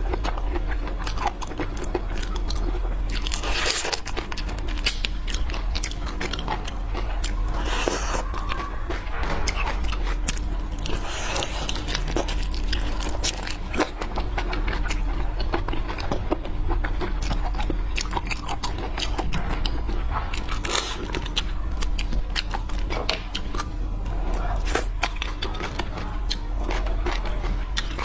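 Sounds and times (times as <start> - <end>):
seafood being bitten and chewed: 0.0 - 28.0
steady low hum: 0.0 - 28.0.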